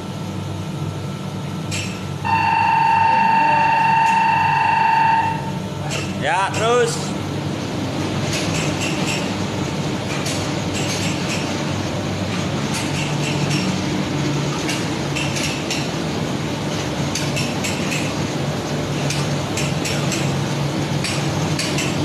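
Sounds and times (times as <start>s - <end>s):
machine running with low hum: 0.0s - 22.0s.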